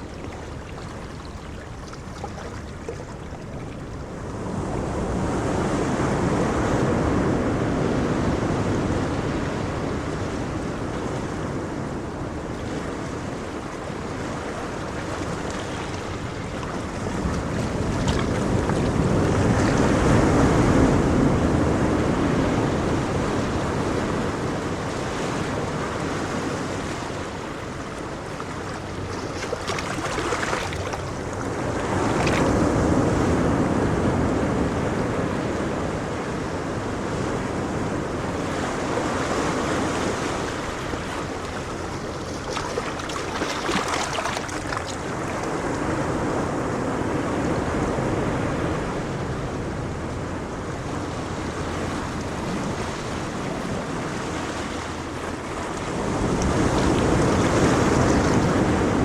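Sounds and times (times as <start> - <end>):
ocean waves breaking on shore: 0.0 - 59.0
wind buffeting microphone: 0.0 - 59.0.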